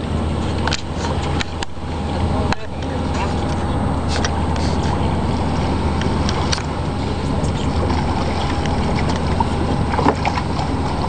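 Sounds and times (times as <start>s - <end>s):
outboard engines idling: 0.0s - 11.0s.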